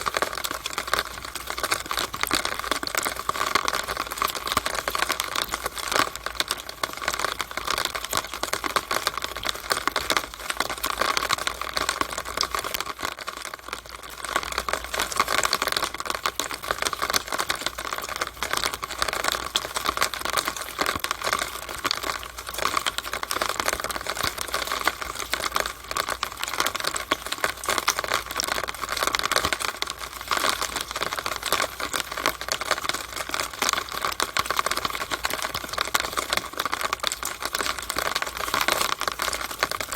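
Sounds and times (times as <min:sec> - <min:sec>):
rainwater dripping in drainpipe: 0:00.0 - 0:39.9.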